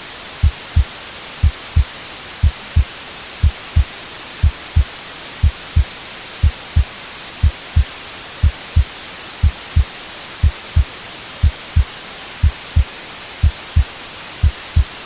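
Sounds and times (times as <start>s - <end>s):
white noise hiss: 0.0s - 15.0s
heartbeat: 0.4s - 15.0s.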